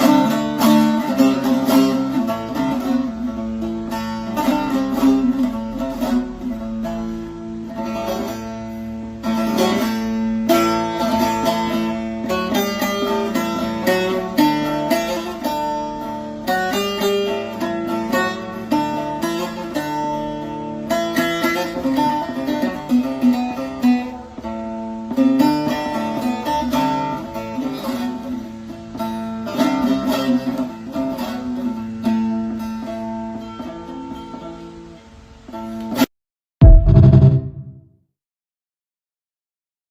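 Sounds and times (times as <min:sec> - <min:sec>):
plucked lute melody with drone: 0:00.0 - 0:37.7.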